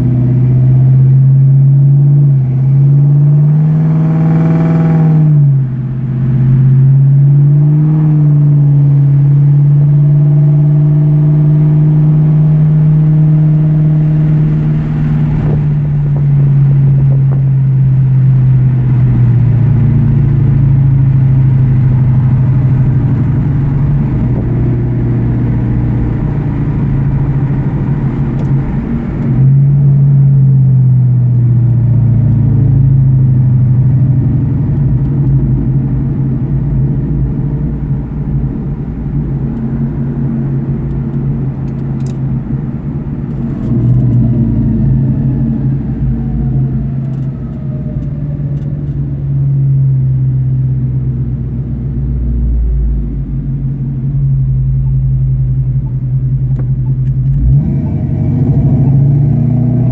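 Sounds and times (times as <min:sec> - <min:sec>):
car engine and exhaust droning: 0:00.0 - 0:59.9.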